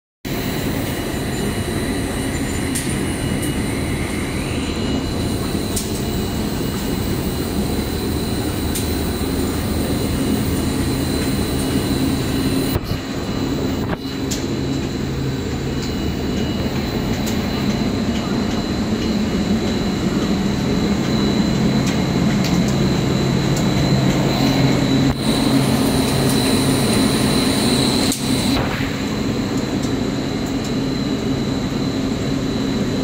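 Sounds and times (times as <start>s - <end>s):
steady high tone: 0.3s - 30.2s
faint machine whine: 0.3s - 33.0s
low mechanical hum: 0.3s - 33.0s.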